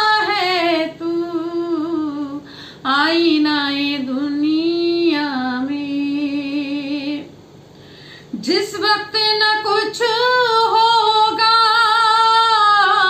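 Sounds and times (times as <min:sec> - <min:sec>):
woman singing: 0:00.0 - 0:07.3, 0:08.3 - 0:13.0.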